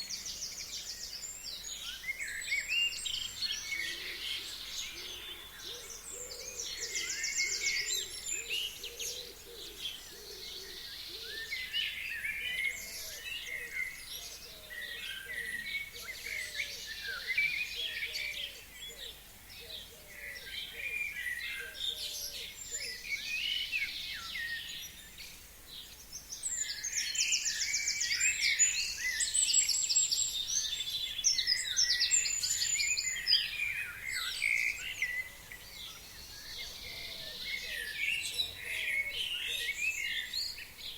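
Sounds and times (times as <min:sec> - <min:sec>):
birds singing: 0:00.0 - 0:40.9.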